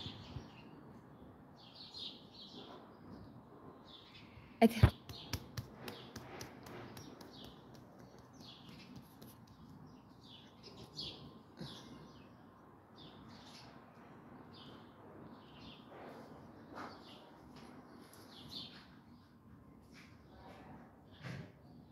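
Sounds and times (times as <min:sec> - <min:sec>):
small birds chirping: 0:00.0 - 0:19.4.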